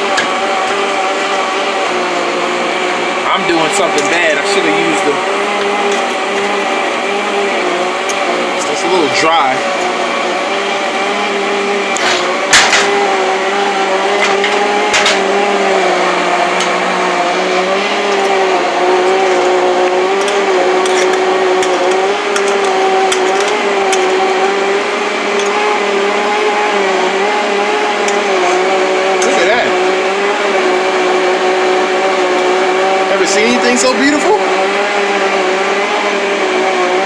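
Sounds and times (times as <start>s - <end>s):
blender motor running: 0.0s - 37.0s.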